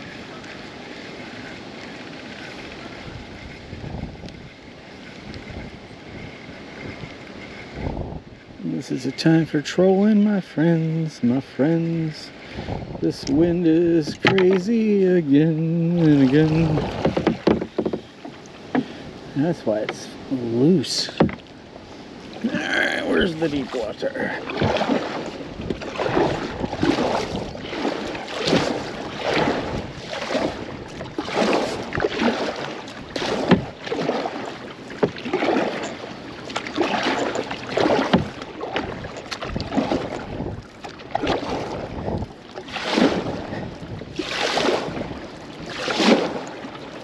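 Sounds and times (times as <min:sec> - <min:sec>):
paddle strokes splashing in water: 0:00.0 - 0:08.0, 0:10.7 - 0:47.0
wind on microphone: 0:00.0 - 0:10.2, 0:11.0 - 0:47.0.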